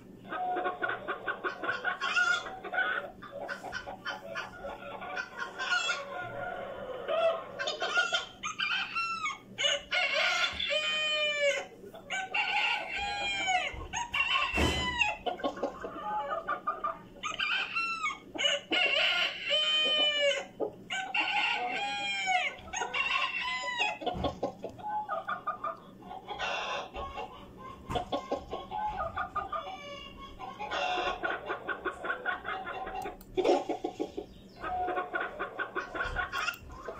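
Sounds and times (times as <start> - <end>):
hens clucking: 0.0 - 36.9
roosters crowing: 0.0 - 36.9.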